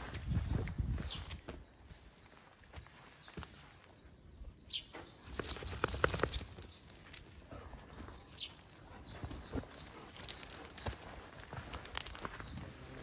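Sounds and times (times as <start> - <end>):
footsteps of dogs and walker: 0.0 - 13.0.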